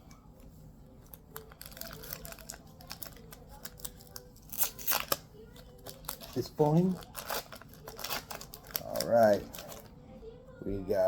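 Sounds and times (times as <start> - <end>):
wrapper tearing and crinkling: 1.0 - 9.9.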